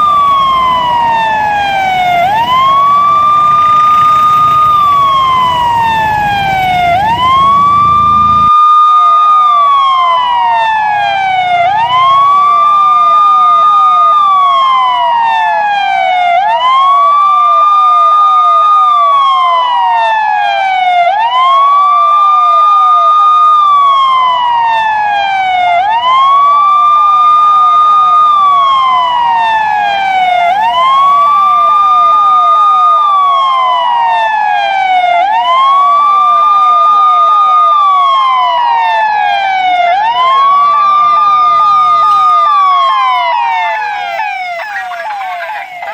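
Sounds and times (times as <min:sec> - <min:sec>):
police siren wailing: 0:00.0 - 0:45.9.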